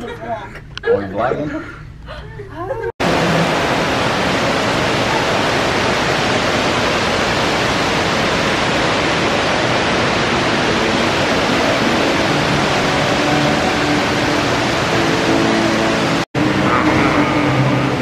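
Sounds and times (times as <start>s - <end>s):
small water cascades: 3.0s - 18.0s
water splashing from fountain jets: 3.0s - 18.0s.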